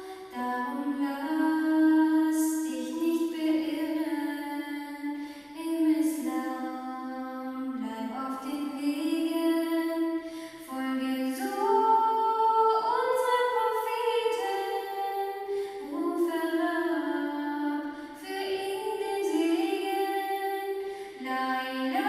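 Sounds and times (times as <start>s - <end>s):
woman singing a cappella: 0.0s - 22.0s.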